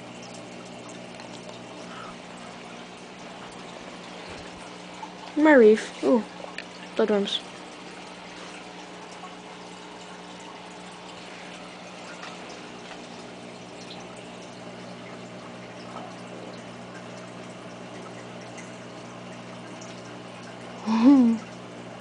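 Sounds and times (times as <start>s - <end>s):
pump humming: 0.0s - 22.0s
trickling water: 0.0s - 22.0s.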